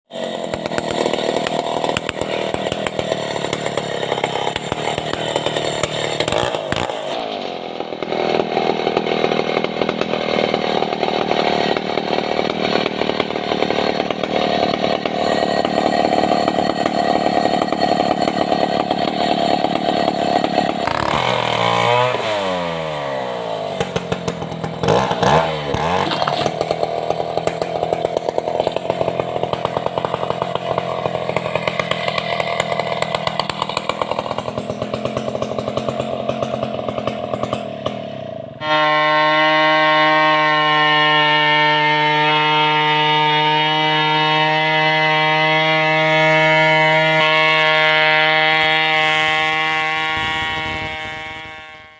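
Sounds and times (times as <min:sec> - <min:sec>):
chainsaw cutting through log: 0:00.0 - 0:51.9.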